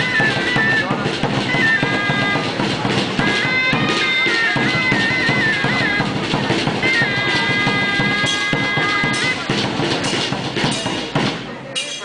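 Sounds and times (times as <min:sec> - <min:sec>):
drum strokes: 0:00.0 - 0:12.0
shawm playing reedy melody: 0:00.0 - 0:12.0.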